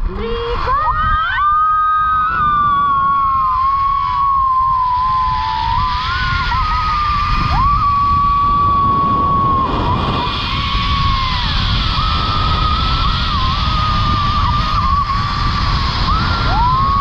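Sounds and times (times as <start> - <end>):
wind rumble on microphone: 0.0 - 17.0
zipline pulleys whining on cable: 0.1 - 17.0.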